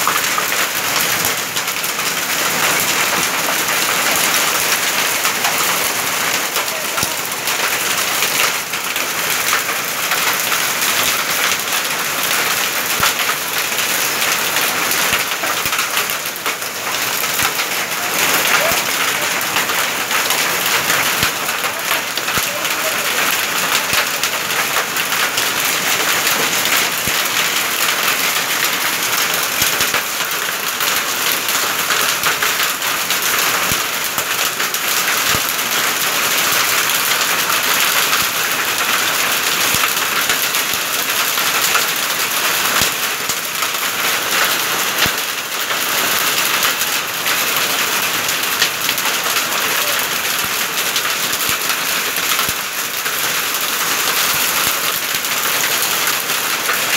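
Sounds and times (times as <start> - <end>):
heavy rain and hail pelting: 0.0 - 56.9.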